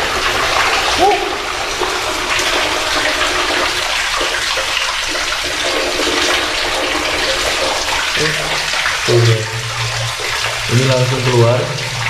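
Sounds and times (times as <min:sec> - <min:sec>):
water splashing in tunnel: 0:00.0 - 0:12.0.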